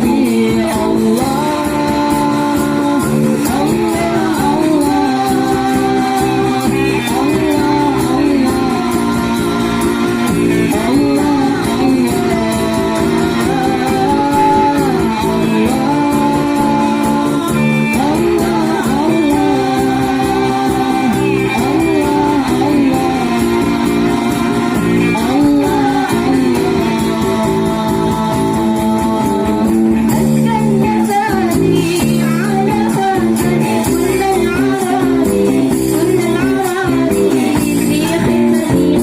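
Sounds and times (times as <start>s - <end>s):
group singing devotional songs: 0.0s - 39.0s
instrumental accompaniment: 0.0s - 39.0s.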